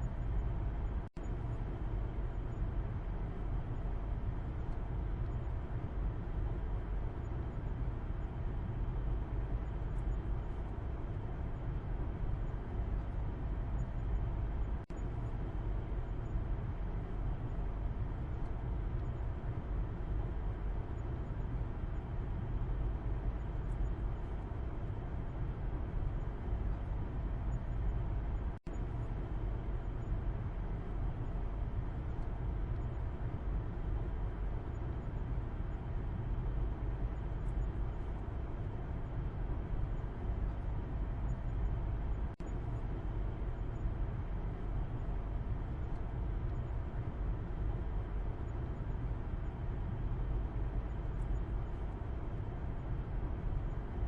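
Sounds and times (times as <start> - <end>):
road rumble inside moving car: 0.0 - 54.0.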